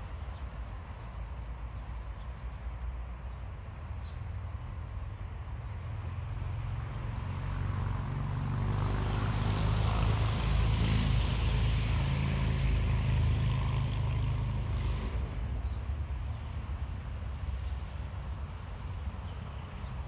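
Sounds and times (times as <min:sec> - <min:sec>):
vehicle engine rumble passing: 0:00.0 - 0:20.0.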